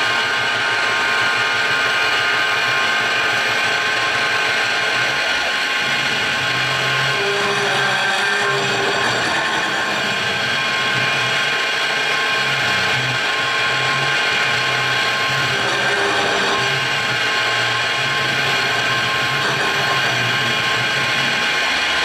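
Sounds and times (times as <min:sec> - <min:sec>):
low machine hum: 0:00.0 - 0:22.0
milling machine cutting metal: 0:00.0 - 0:22.0.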